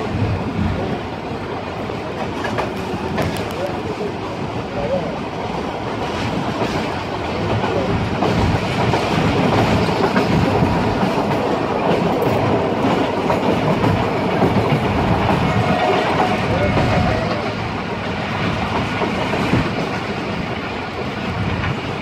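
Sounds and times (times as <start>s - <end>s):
train wheels running on track: 0.0s - 22.0s.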